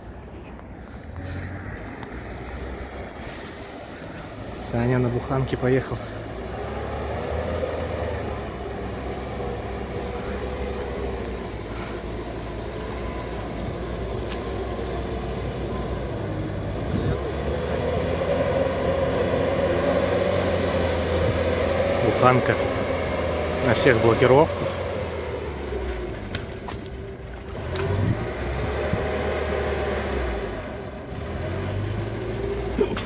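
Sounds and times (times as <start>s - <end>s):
van engine under load: 0.0s - 33.0s.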